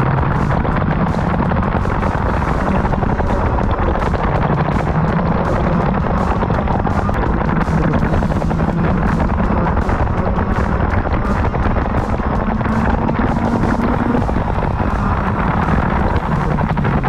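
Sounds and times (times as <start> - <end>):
kart engine running hard: 0.0 - 17.0
wind rushing over microphone: 0.0 - 17.0.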